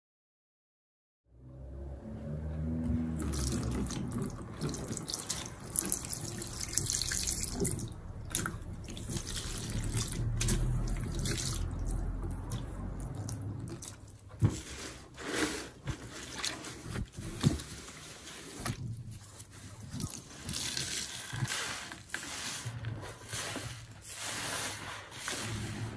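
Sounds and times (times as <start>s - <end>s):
wet sponges squishing: 2.9s - 25.9s
liquid pouring and splashing: 3.2s - 25.8s.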